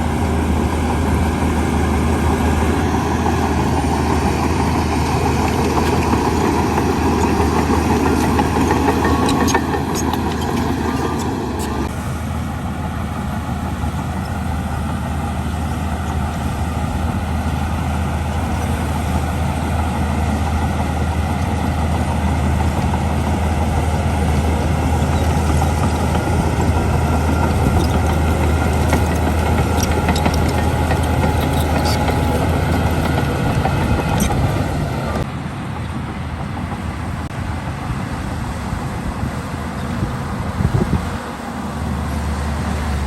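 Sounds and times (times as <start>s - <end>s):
diesel engine deep hum: 0.0s - 43.0s.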